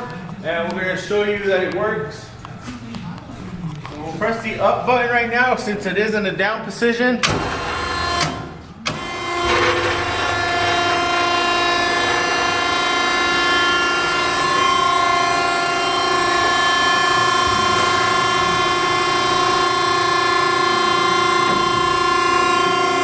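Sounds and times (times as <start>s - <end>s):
hydraulic power unit whining hum: 0.0s - 23.0s.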